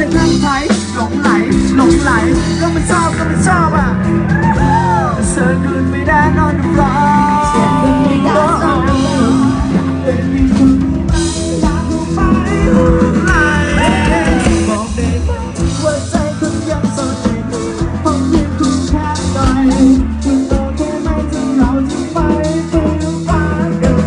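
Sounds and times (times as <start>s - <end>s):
person singing: 0.0s - 24.0s
rock band with guitar: 0.0s - 24.0s.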